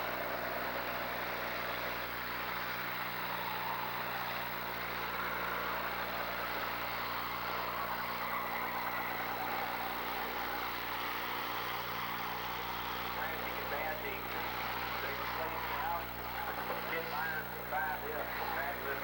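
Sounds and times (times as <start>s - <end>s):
car engines running: 0.0s - 19.0s.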